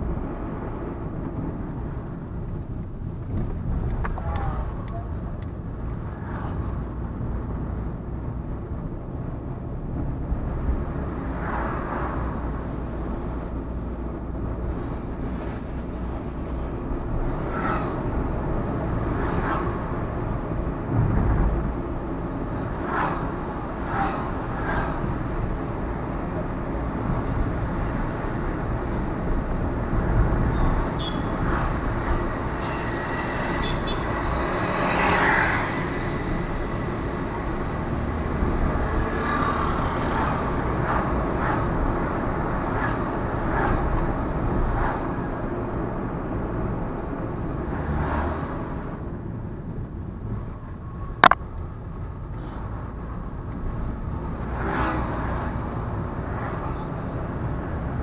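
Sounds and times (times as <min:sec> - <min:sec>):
car engine and road rumble: 0:00.0 - 0:58.0
sharp traffic sounds: 0:10.2 - 0:49.2, 0:50.3 - 0:58.0.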